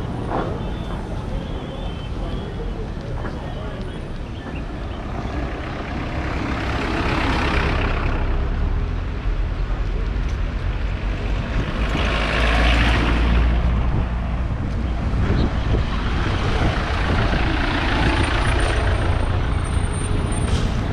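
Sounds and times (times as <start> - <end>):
steady low traffic rumble: 0.0 - 20.9
vehicles passing: 0.0 - 20.9.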